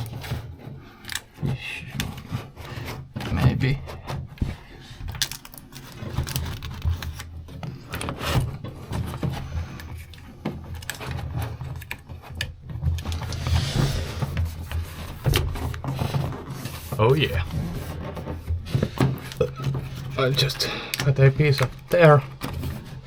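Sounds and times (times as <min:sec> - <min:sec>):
handling clicks knocks and scrapes: 0:00.0 - 0:23.0.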